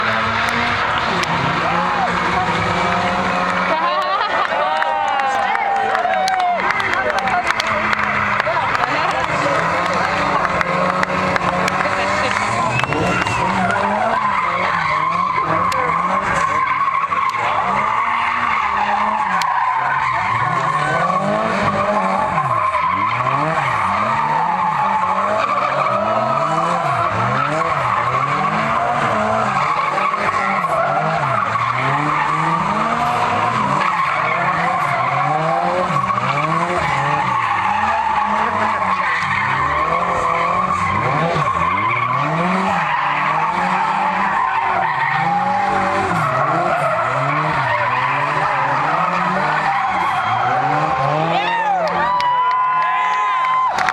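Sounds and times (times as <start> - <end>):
tyres squealing: 0.0 - 52.8
car engines revving: 0.0 - 53.9.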